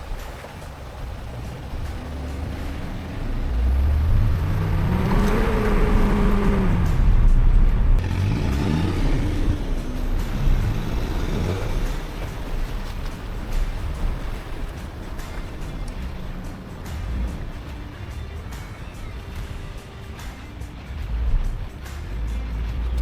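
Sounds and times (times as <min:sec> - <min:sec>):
engine revving under load: 0:00.0 - 0:23.0
low rumble: 0:00.0 - 0:23.0.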